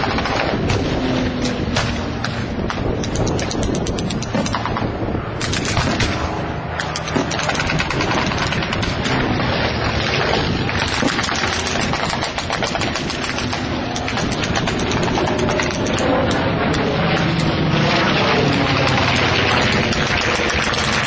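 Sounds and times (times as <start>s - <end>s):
engine running: 0.0s - 21.0s
rapid pyrotechnic bangs: 0.0s - 21.0s.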